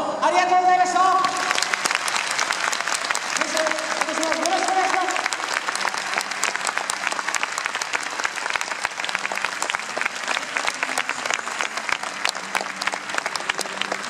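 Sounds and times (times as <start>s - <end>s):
crowd applauding: 1.1s - 14.0s.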